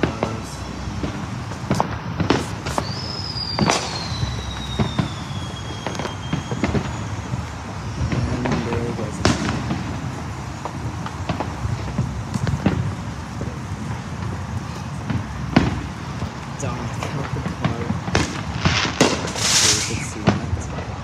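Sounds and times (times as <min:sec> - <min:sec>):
fireworks banging: 0:00.0 - 0:21.0
whistling firework: 0:00.0 - 0:21.0.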